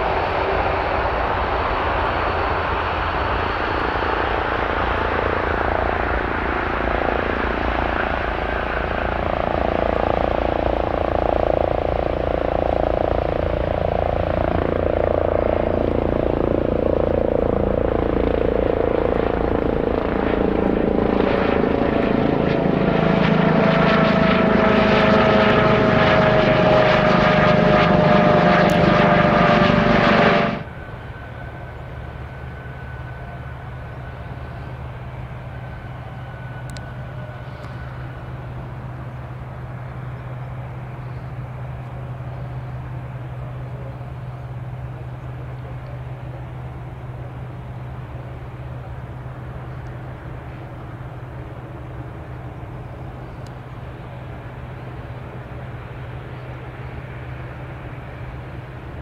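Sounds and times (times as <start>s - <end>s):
jet engine whine and crackle: 0.0s - 59.0s
jet engines at high power: 0.0s - 59.0s.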